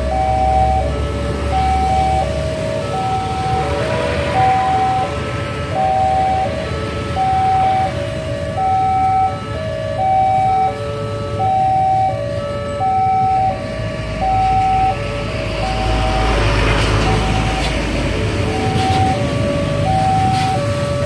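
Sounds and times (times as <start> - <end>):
heavy engine rumble: 0.0 - 21.0
idling road traffic: 0.0 - 21.0
two-tone crossing alarm: 0.0 - 21.0.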